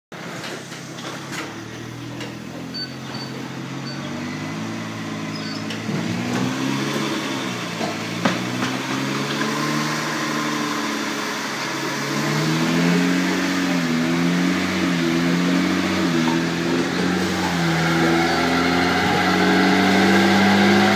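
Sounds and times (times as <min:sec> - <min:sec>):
car engine wavering: 0:00.2 - 0:20.9
rolling drone of spinning wheels: 0:00.2 - 0:20.9.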